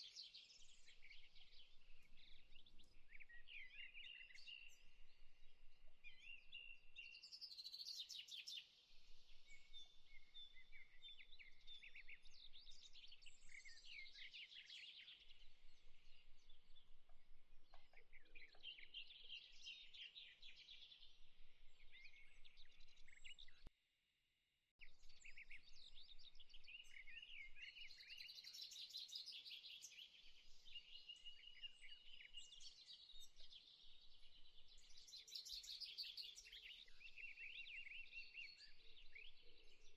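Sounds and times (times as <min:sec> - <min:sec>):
small birds chirping: 0:00.0 - 0:23.7, 0:24.8 - 0:39.9.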